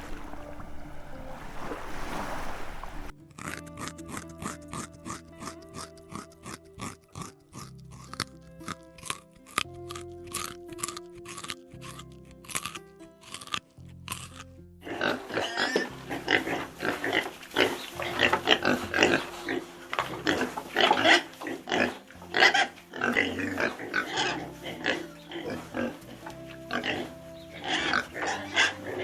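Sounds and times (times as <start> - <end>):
background music with held tones: 0.0 - 2.1, 3.1 - 29.0.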